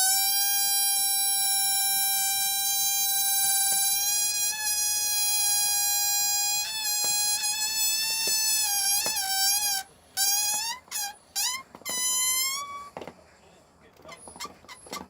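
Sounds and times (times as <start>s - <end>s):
balloon deflating with squeal: 0.0s - 13.0s, 14.1s - 15.0s.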